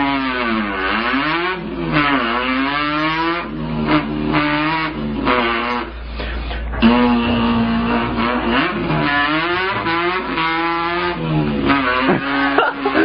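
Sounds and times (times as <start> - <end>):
person imitating revving engine: 0.0 - 13.0.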